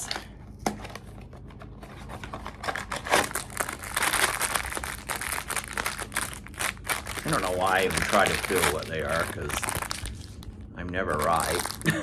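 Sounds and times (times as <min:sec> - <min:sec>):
foil wrapper crinkling and tearing: 0:02.2 - 0:12.0.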